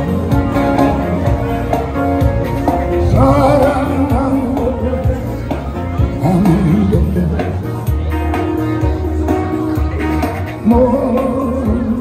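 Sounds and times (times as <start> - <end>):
acoustic guitar through loudspeaker: 0.0 - 12.0
steady bass: 0.0 - 12.0.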